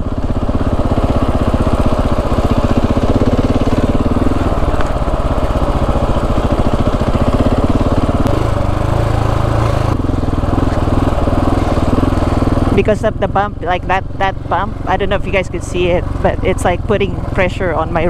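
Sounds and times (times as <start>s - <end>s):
dirt bike engine at low speed: 0.0s - 18.0s.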